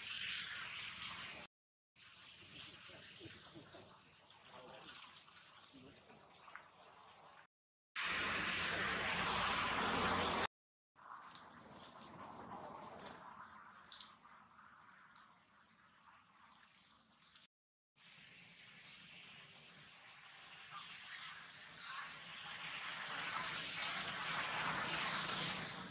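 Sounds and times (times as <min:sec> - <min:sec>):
insects droning: 0:02.0 - 0:10.4, 0:11.0 - 0:25.7.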